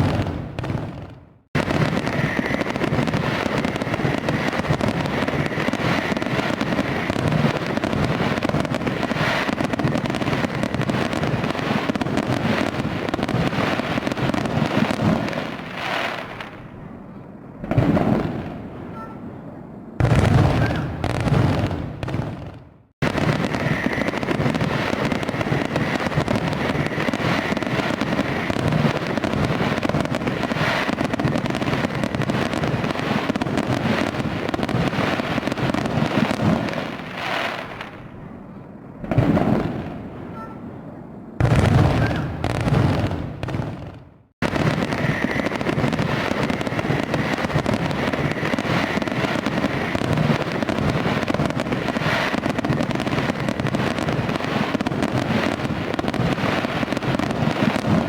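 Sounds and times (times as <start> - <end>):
firework booms: 0.0 - 58.0
fireworks bangs and crackle: 0.0 - 58.0.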